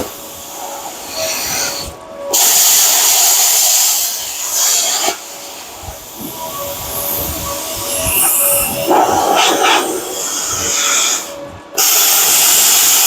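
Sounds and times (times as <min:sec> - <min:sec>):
plasma cutter hissing: 0:00.0 - 0:13.0.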